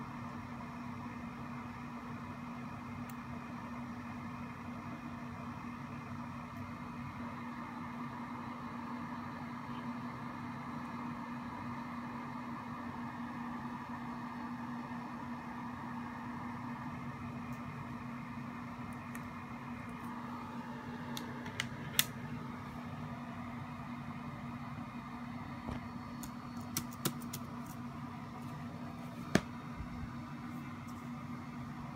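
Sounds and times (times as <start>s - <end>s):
room hum: 0.0s - 31.9s.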